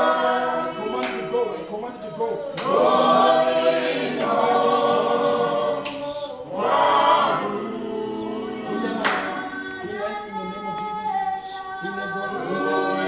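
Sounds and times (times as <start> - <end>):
group singing unaccompanied: 0.0 - 13.0.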